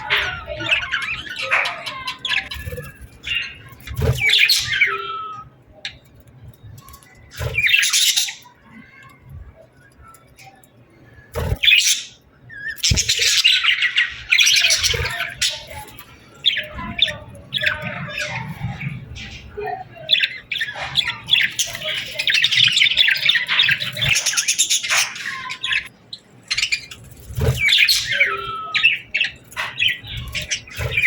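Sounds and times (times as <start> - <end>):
birds chirping and squawking: 0.0 - 31.0.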